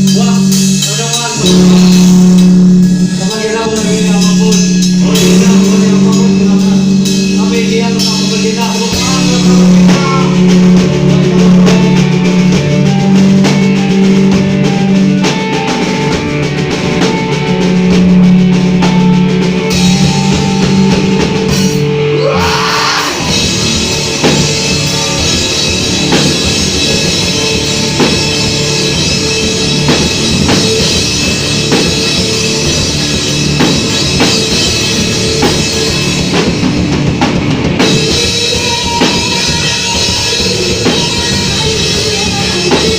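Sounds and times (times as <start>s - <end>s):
rock band music: 0.0s - 42.9s.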